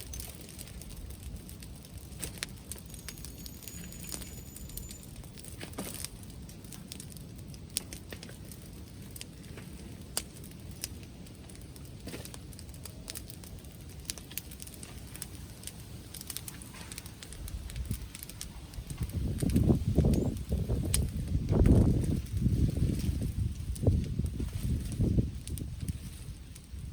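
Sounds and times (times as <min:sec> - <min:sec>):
bonfire crackling and popping: 0:00.0 - 0:26.9
wind rumble on microphone: 0:00.0 - 0:26.9.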